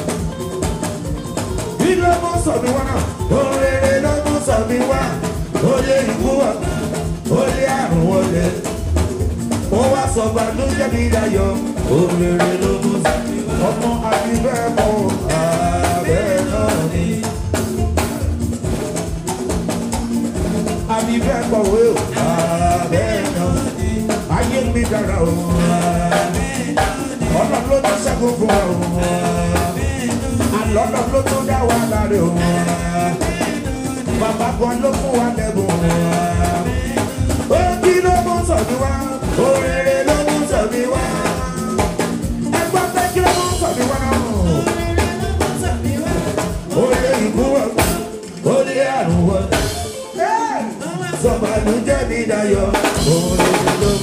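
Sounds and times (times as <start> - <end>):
live band playing upbeat song: 0.0 - 54.0
lead singer singing: 1.8 - 18.0, 20.7 - 54.0.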